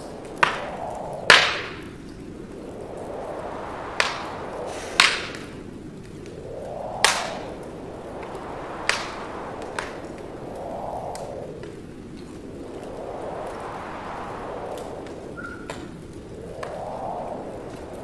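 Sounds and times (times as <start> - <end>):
burning logs popping: 0.0 - 13.6, 14.7 - 18.0
wood fire crackling: 0.0 - 18.0.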